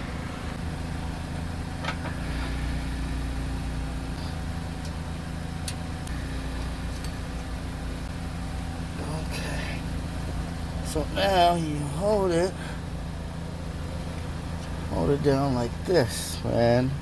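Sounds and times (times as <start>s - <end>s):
low engine-like hum: 0.0s - 17.0s.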